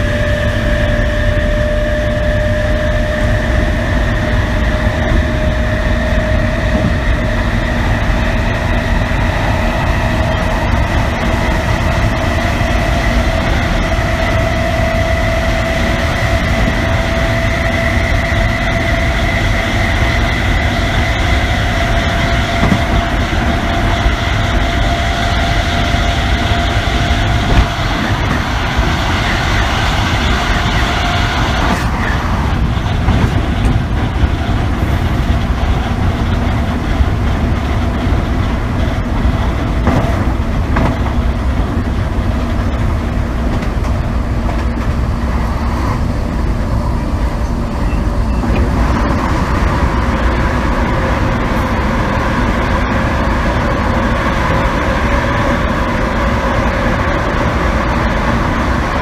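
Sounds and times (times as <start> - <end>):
traction motor whine: 0.0 - 59.0
train wheels rumbling: 0.0 - 59.0.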